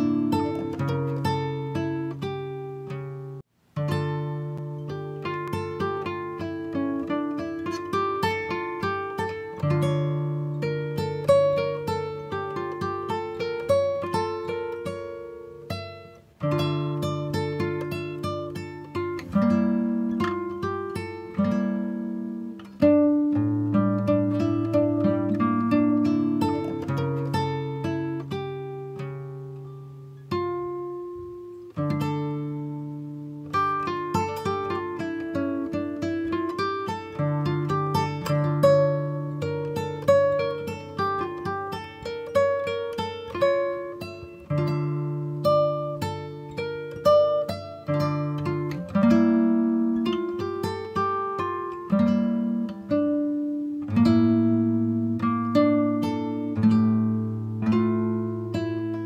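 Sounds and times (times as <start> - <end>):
acoustic guitar notes: 0.0 - 59.0.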